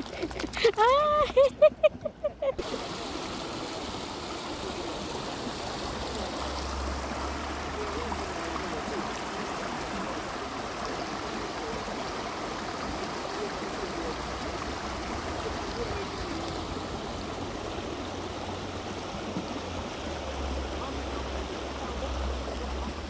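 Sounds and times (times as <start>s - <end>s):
water trickling over rocks: 0.0s - 1.5s, 2.6s - 23.0s.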